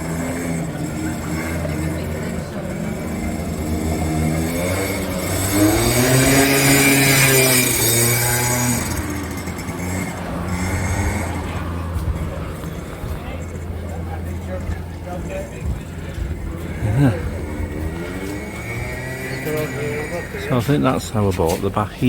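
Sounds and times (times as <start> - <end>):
motor engine passing: 0.0 - 21.7.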